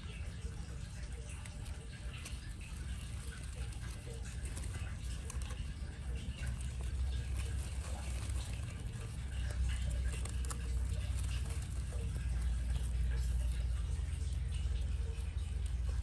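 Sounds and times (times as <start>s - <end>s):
small animals rustling in shavings: 0.0s - 16.0s
small claws scratching: 0.0s - 16.0s.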